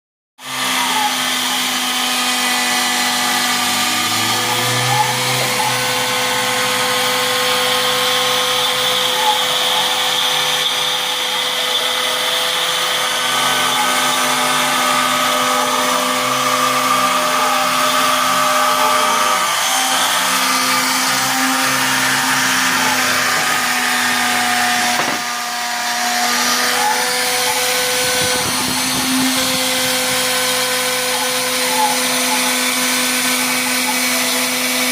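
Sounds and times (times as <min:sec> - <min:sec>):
motor tones gliding in pitch: 0:00.4 - 0:34.9
router running: 0:00.4 - 0:34.9.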